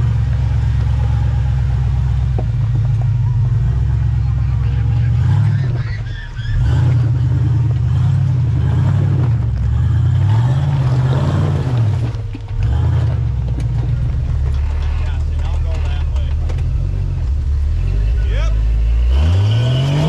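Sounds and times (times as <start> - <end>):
engine working under load: 0.0 - 20.0.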